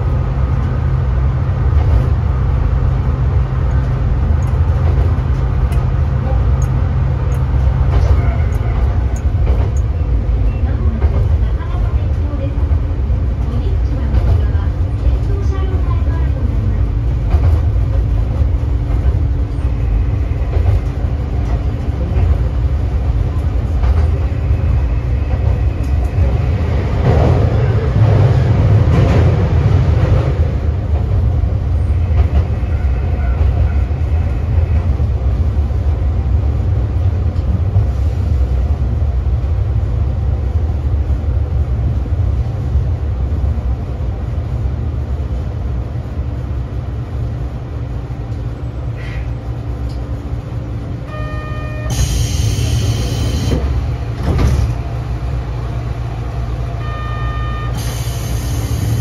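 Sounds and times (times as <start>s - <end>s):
diesel railcar rumbling on rails: 0.0s - 59.0s.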